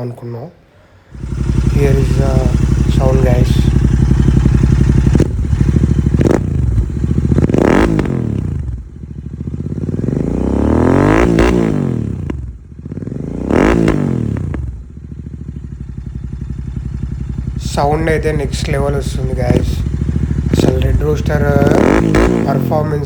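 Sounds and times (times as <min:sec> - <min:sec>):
motorcycle engine revving: 0:01.0 - 0:23.0.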